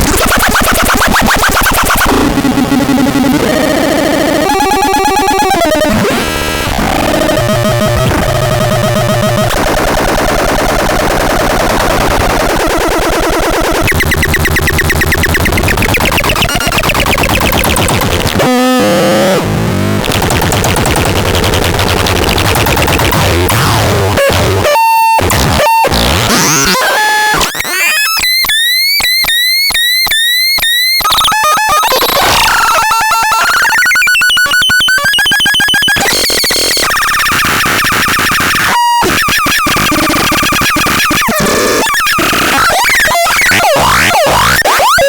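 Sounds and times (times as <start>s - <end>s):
harsh synth noise: 0.0s - 45.0s.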